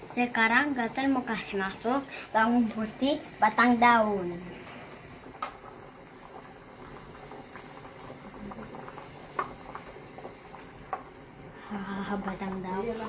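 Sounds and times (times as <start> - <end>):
pot of water boiling: 0.0 - 13.0.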